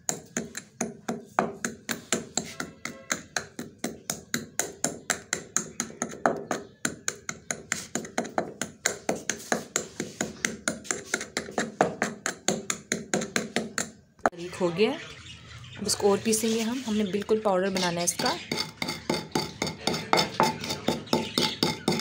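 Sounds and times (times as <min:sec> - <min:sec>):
wooden pestle pounding in stone mortar: 0:00.0 - 0:14.0, 0:17.8 - 0:22.0.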